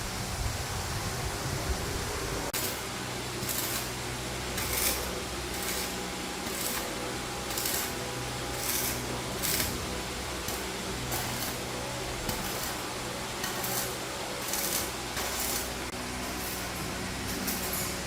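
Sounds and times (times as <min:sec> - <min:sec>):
steady low hum: 0:00.0 - 0:18.0
rhythmic scraping strokes: 0:02.5 - 0:18.0.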